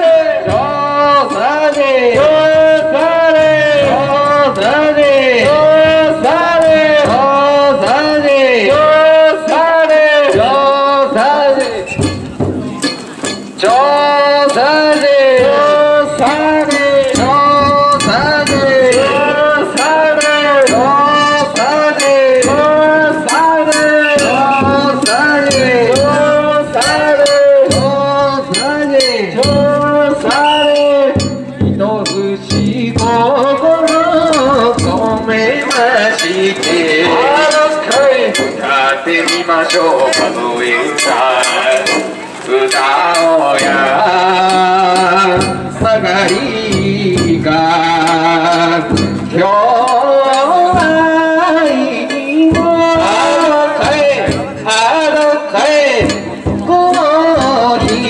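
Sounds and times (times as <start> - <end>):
man singing long held notes: 0.0 - 12.0, 13.5 - 58.0
instrumental accompaniment: 0.0 - 58.0
sharp rhythmic beats: 0.0 - 58.0.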